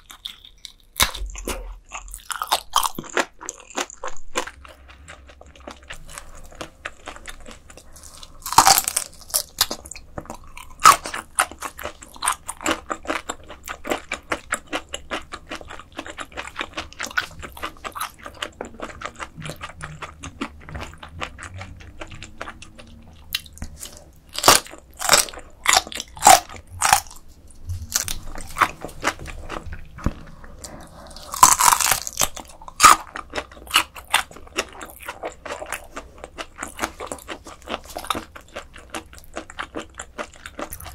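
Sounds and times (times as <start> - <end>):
crunchy chewing of fish bones: 0.0 - 40.9.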